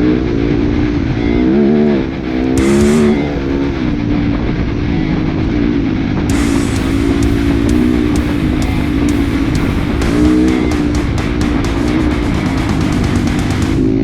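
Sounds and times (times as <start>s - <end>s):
dirt bike engine revving: 0.8s - 4.4s, 6.3s - 14.0s.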